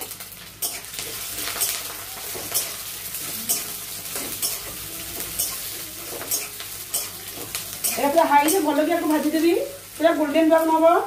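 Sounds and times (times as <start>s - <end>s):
onions sizzling in oil: 0.0s - 11.0s
spatula scraping wok: 0.6s - 9.5s.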